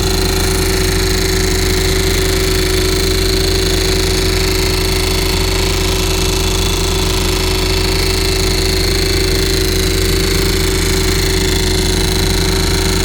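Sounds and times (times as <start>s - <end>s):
hammer drill rapid hammering: 0.0s - 13.0s
machine hum: 0.0s - 13.0s.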